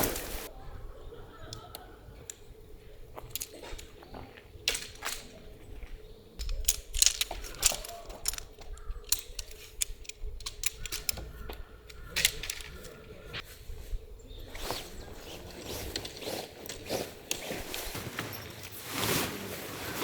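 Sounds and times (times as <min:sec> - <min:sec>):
camping gear clicking and knocking: 0:00.0 - 0:00.5, 0:02.2 - 0:13.5, 0:14.4 - 0:19.0.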